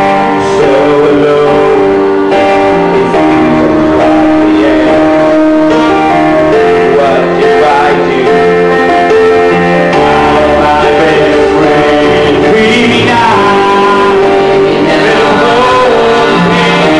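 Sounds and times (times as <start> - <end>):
instrumental accompaniment: 0.0 - 16.9
man singing into a microphone: 0.0 - 16.9.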